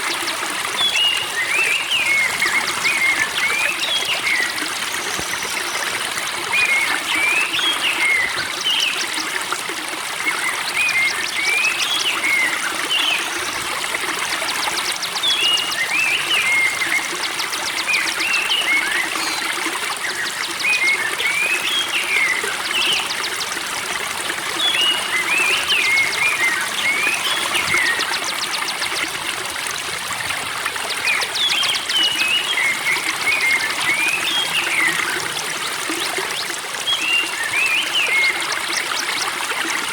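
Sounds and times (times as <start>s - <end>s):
spring water trickling: 0.0s - 39.9s.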